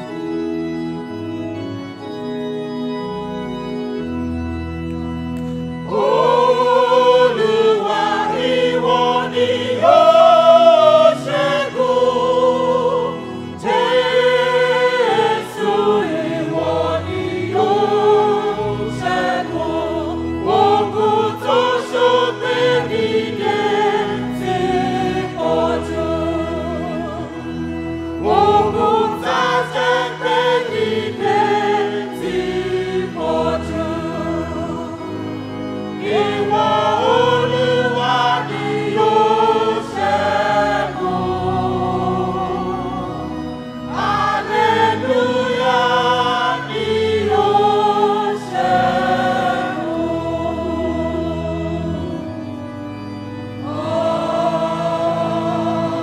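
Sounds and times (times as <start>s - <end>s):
church choir singing a hymn: 0.0s - 56.0s
electronic keyboard accompaniment: 0.0s - 56.0s.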